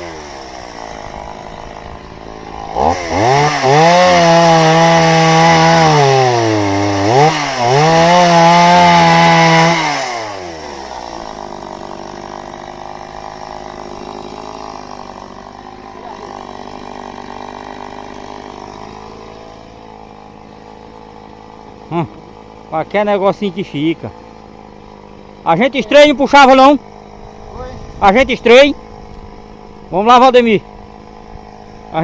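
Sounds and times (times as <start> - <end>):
chainsaw idling and revving: 0.0 - 32.0.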